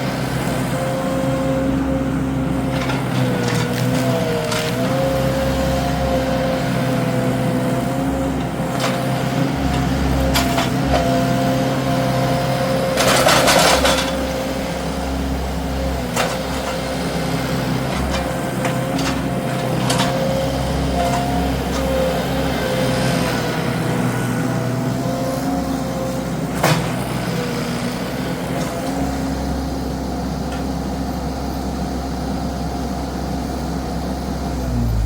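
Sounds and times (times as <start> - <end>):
skid steer engine rumbling: 0.0 - 35.0.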